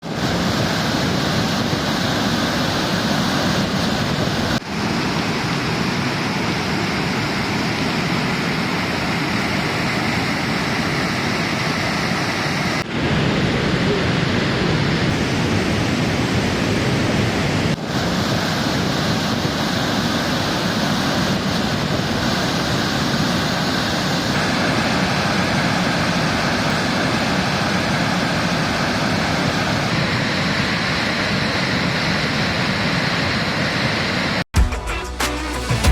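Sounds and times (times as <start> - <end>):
waterfall rushing: 0.0 - 34.4.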